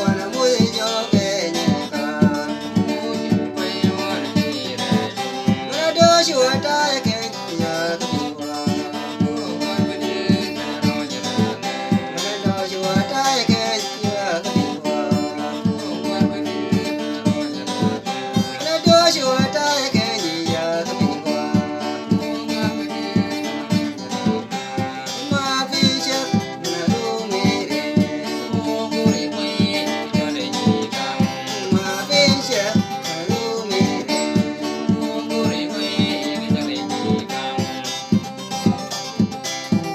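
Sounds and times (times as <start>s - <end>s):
guitar with steady beat: 0.0s - 39.9s
man singing: 0.0s - 39.9s.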